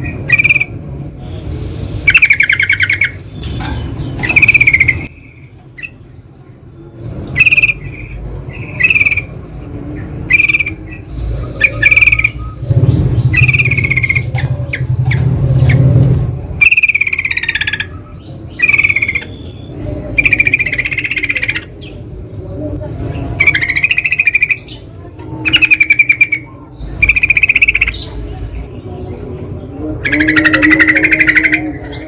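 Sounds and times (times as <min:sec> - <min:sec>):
bulbuls chattering calls: 0:00.0 - 0:00.9, 0:02.0 - 0:06.1, 0:07.3 - 0:32.0.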